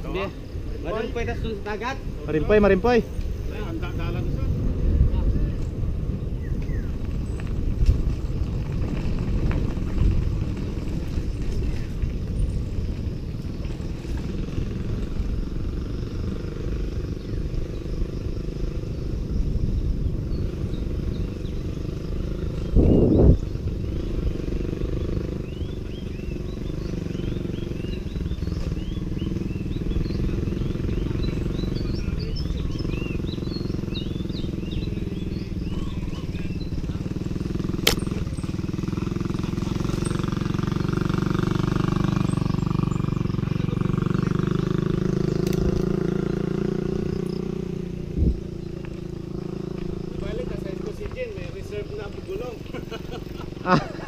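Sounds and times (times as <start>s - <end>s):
bicycle tyres rolling on concrete: 0.0s - 54.0s
wind buffeting microphone: 0.0s - 54.0s.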